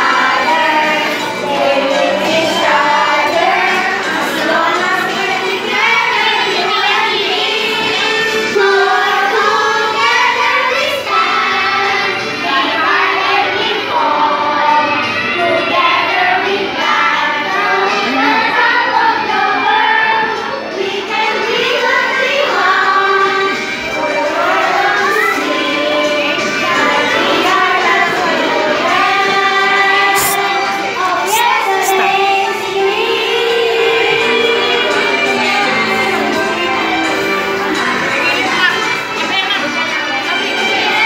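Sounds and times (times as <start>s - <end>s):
children and women singing: 0.0s - 41.0s.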